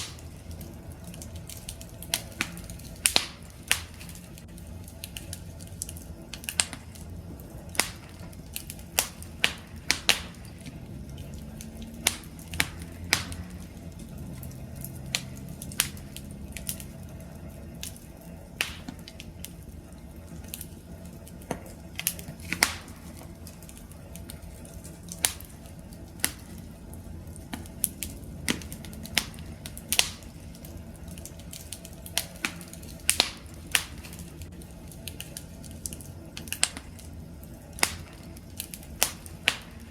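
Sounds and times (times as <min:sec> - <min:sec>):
low rumble of burning: 0:00.0 - 0:39.9
wood fire pops and snaps: 0:00.0 - 0:39.9.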